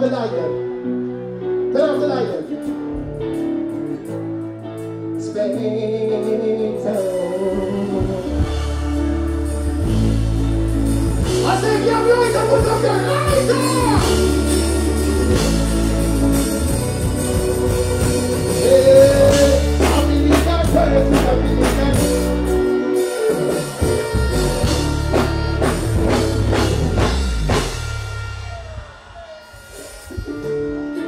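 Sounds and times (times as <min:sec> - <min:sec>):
live band music: 0:00.0 - 0:31.0
deep bass notes: 0:02.5 - 0:31.0.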